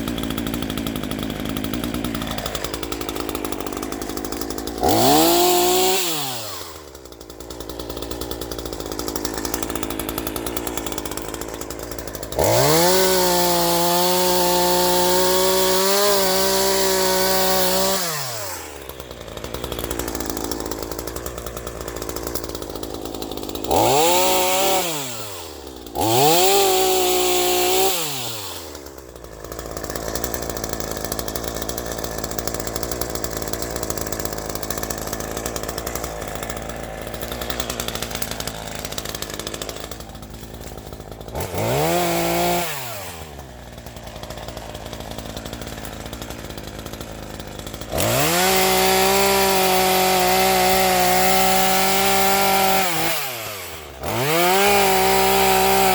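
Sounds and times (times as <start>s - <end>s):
chainsaw revving and idling: 0.0s - 55.9s.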